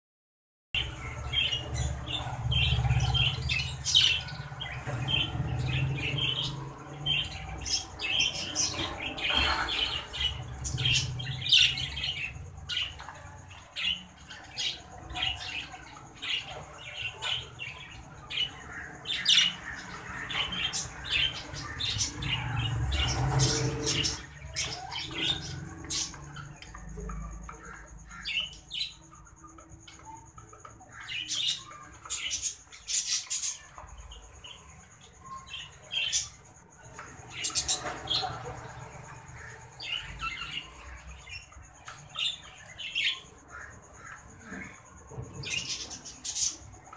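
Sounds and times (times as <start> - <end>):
budgerigars chattering and squawking: 0.8 - 36.3, 36.9 - 46.9.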